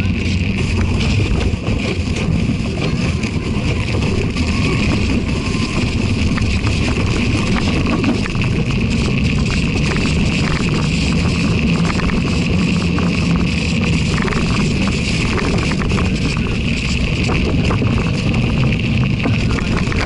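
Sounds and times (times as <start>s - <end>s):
bicycle tire rolling over slush: 0.0s - 20.0s
tire crunching through snow: 0.0s - 20.0s.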